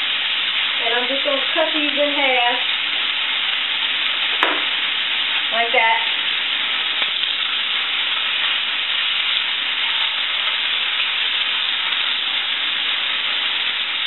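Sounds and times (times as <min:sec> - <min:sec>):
butter sizzling in a skillet: 0:00.0 - 0:14.0.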